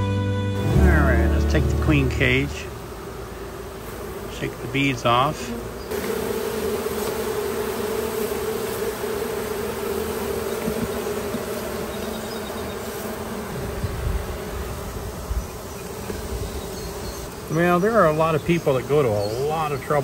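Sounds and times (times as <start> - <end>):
bee colony buzzing: 0.6 - 20.0.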